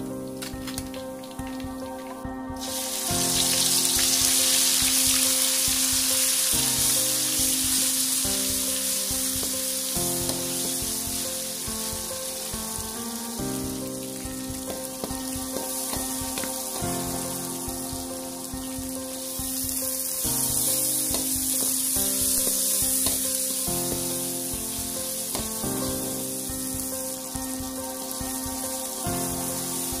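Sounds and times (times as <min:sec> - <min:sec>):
background music: 0:00.0 - 0:30.0
spice paste sizzling in hot oil: 0:02.5 - 0:30.0.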